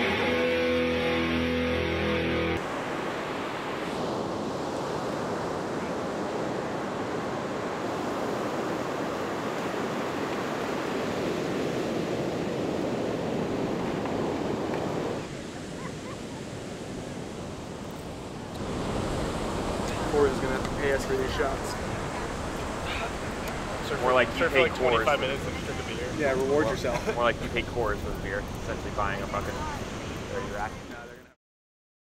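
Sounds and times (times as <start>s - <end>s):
ocean surf breaking: 0.0s - 31.2s.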